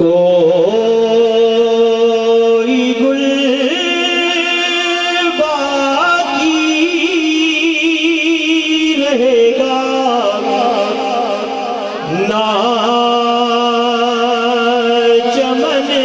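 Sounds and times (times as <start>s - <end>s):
man singing into a microphone: 0.0s - 16.0s.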